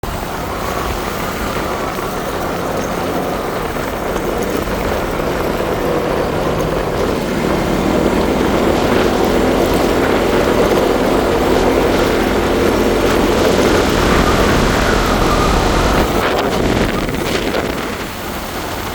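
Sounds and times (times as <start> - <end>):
motorcycle engine: 0.0 - 18.9
road noise: 0.0 - 18.9.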